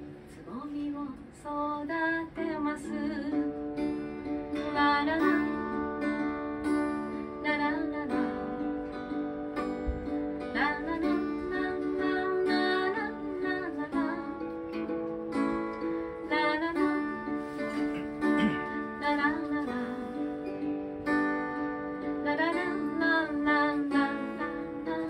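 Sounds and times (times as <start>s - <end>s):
woman singing: 0.3s - 25.0s
strummed acoustic guitar: 2.4s - 25.0s.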